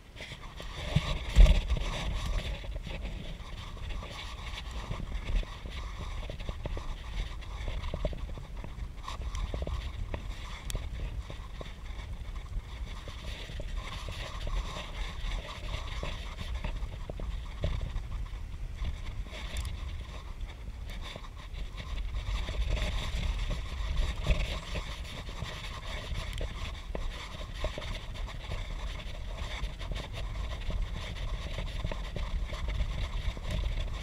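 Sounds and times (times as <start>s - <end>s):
wind buffeting microphone: 0.0s - 34.0s
bicycle clicks and rattles: 0.2s - 34.0s.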